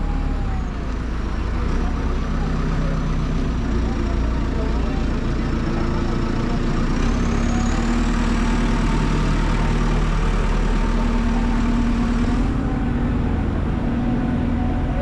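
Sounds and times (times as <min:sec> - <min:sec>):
engine idling: 0:00.0 - 0:15.0
street traffic: 0:00.0 - 0:15.0.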